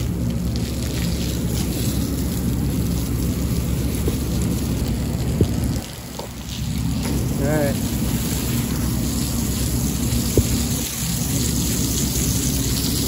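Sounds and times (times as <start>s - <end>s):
hose water spraying on metal fins: 0.0s - 13.0s.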